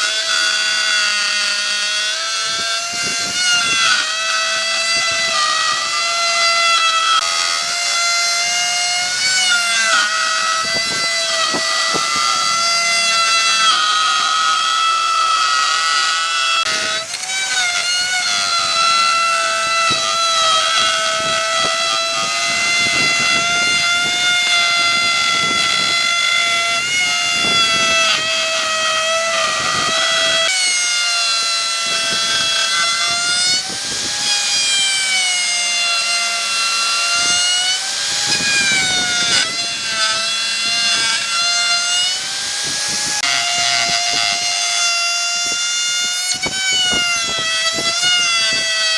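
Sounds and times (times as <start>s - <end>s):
power tool cutting wood: 0.0s - 48.9s.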